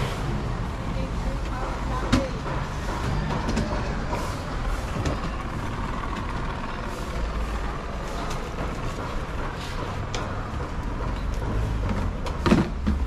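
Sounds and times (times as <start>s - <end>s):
low rumble of road traffic: 0.0s - 13.0s
market background noise: 0.0s - 13.0s.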